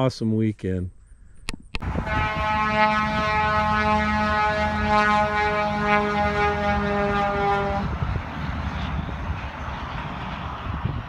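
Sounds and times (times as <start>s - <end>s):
excavator engine whine and rumble: 1.8s - 11.0s.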